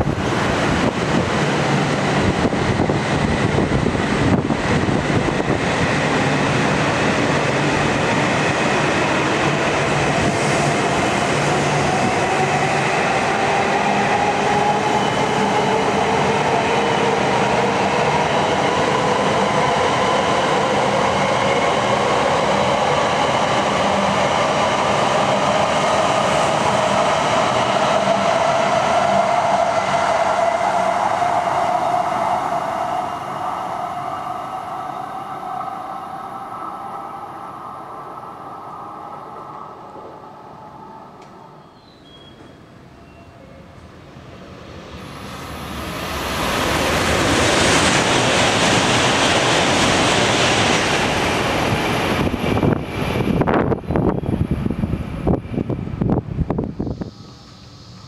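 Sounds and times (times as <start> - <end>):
train wheels rolling past: 0.0 - 58.0.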